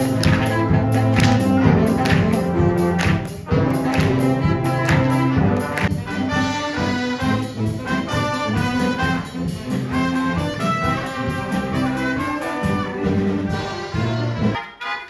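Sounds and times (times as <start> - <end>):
brass instruments playing music: 0.0 - 15.0.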